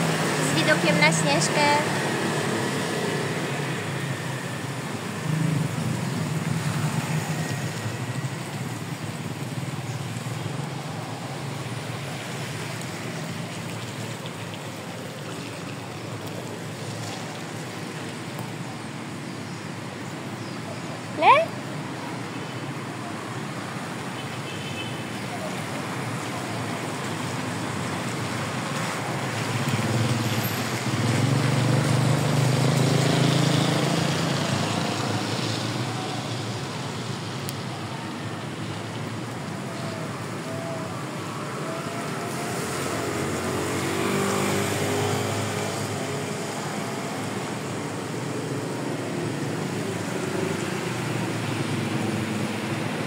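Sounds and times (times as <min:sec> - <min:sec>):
street traffic passing: 0:00.0 - 0:53.0.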